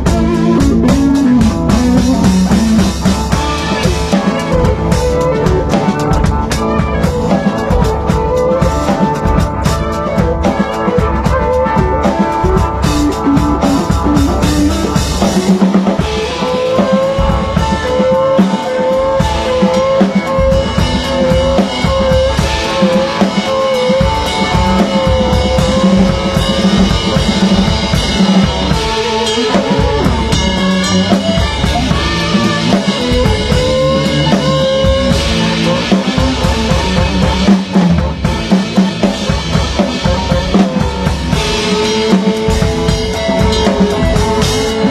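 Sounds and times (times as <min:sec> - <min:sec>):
bending lead melody: 0:00.0 - 0:44.9
drum kit beat: 0:00.0 - 0:44.9
rock band playing: 0:00.0 - 0:44.9.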